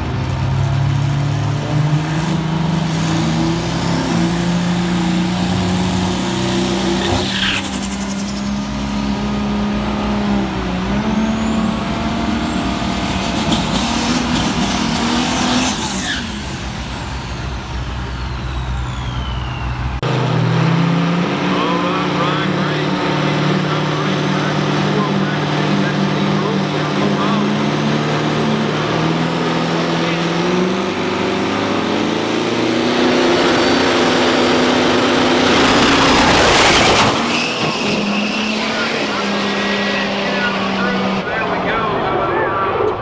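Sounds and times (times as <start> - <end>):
diesel truck engines revving: 0.0 - 43.0
high turbo whistles: 0.0 - 43.0.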